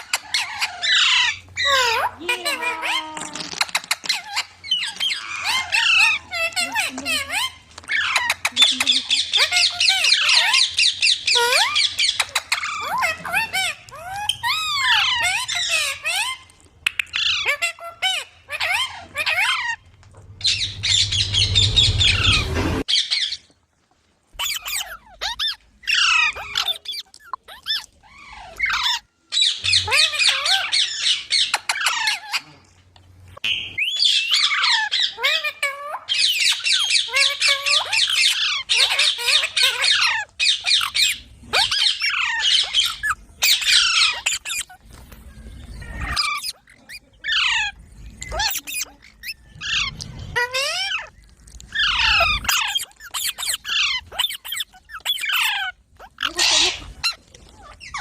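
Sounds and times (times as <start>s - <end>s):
parrot screeching and squawking: 0.0s - 23.5s, 24.3s - 32.7s, 33.3s - 58.0s.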